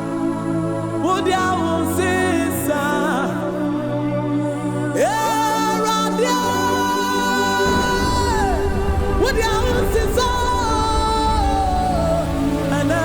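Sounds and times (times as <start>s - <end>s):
gospel worship music with singing: 0.0s - 13.0s.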